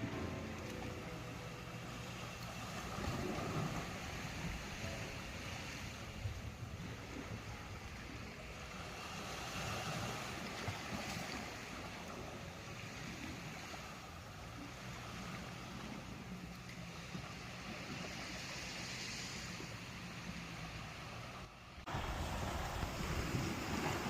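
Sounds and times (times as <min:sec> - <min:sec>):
ocean surf washing in: 0:00.0 - 0:24.0.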